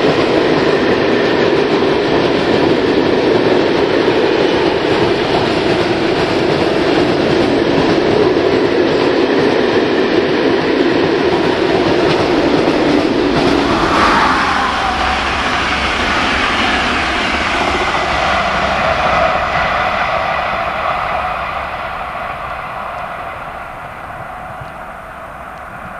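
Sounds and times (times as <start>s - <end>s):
passing locomotive whine: 0.0s - 25.9s
train wheels on rails: 0.0s - 25.9s.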